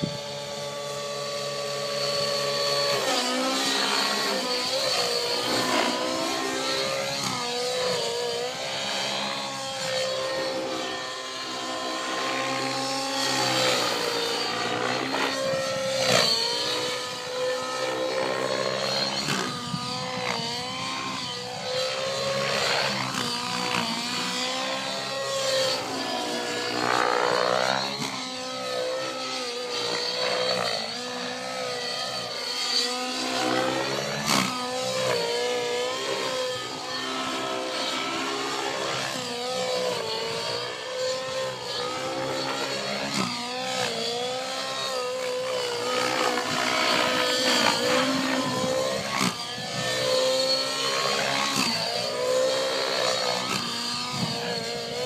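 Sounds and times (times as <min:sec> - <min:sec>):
model helicopter engine and rotor: 0:00.0 - 0:55.0.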